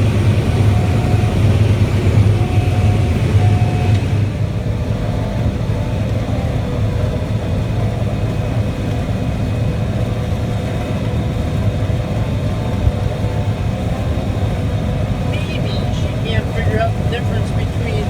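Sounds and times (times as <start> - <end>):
diesel engine drone: 0.0 - 18.0.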